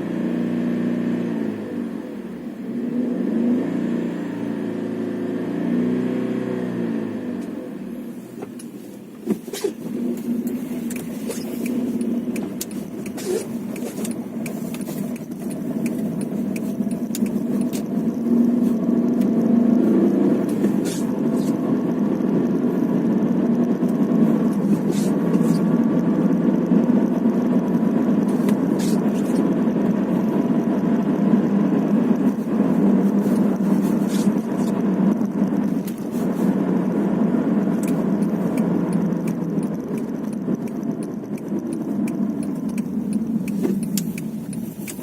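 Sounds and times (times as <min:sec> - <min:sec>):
car engine rumble: 0:00.0 - 0:45.0
road noise: 0:00.0 - 0:45.0.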